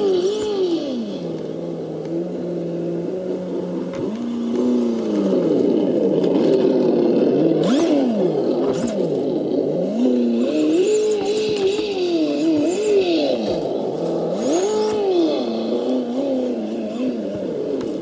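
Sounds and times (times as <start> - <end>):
simulated engine revving: 0.0 - 18.0.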